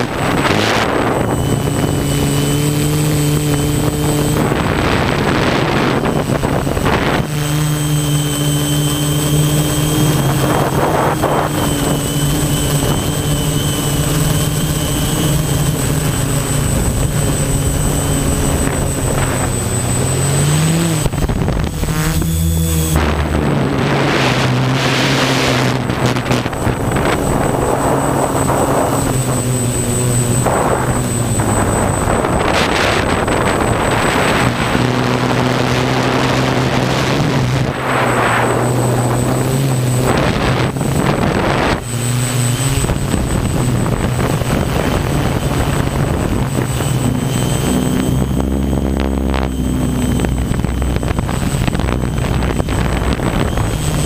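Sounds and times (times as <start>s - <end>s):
drone propellers buzzing: 0.0s - 54.0s
wind noise: 0.0s - 54.0s.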